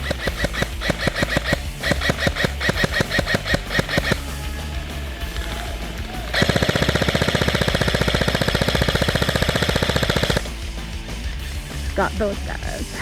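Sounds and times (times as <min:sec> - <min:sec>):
airsoft gun full-auto burst: 0:00.0 - 0:12.3.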